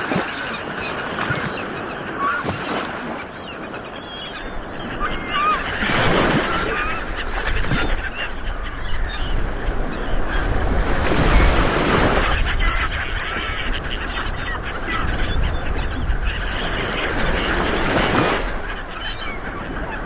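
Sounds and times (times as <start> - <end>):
ocean waves rolling onto shore: 0.0 - 20.0.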